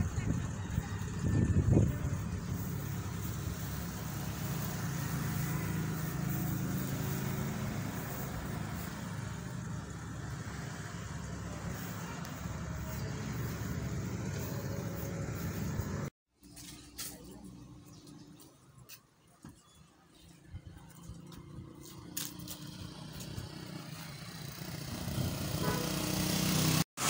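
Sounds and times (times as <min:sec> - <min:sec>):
engine running: 0:00.0 - 0:18.9, 0:20.2 - 0:26.8.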